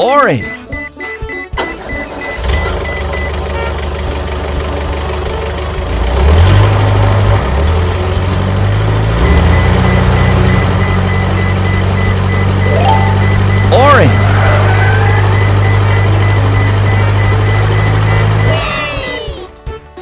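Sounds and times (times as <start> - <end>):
cartoon truck engine revving: 0.4 - 19.5.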